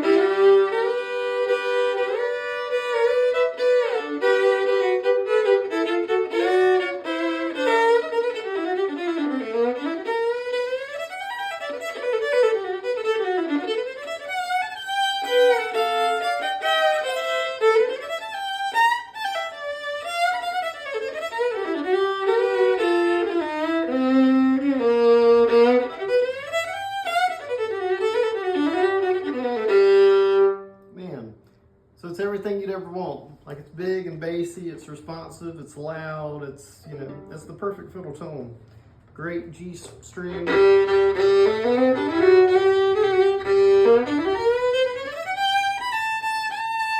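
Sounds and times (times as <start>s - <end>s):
bowed fiddle tune: 0.0s - 30.9s, 34.4s - 38.2s, 39.3s - 46.9s.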